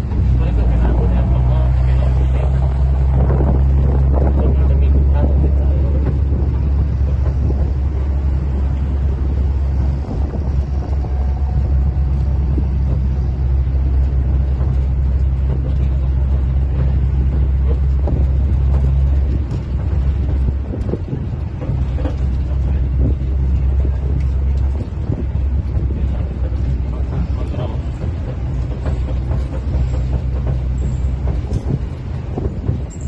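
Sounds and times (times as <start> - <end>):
vehicle engine and road rumble: 0.0 - 33.0
wind buffeting microphone: 0.0 - 33.0.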